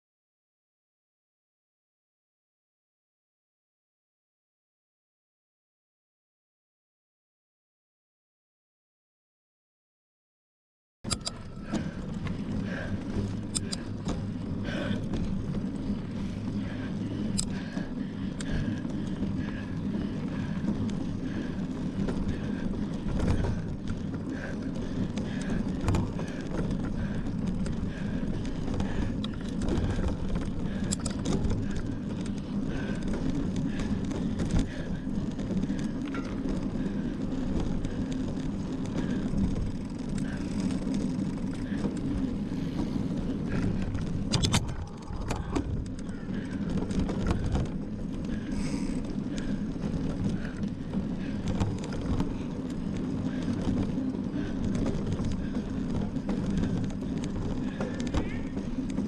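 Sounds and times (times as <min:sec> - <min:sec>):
bike rattling and clicking: 0:11.1 - 0:59.0
bike tyres rumbling on ground: 0:11.4 - 0:59.0.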